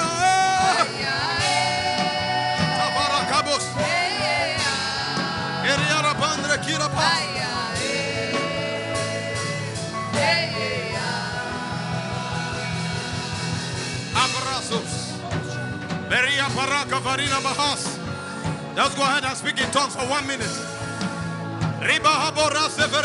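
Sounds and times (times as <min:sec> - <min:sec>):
sustained instrumental chords: 0:00.0 - 0:23.0.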